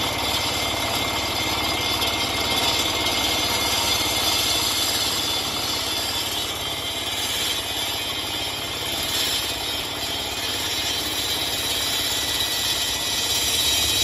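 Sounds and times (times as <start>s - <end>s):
diesel engine running: 0.0s - 14.0s
saw blade grinding asphalt: 0.0s - 14.0s.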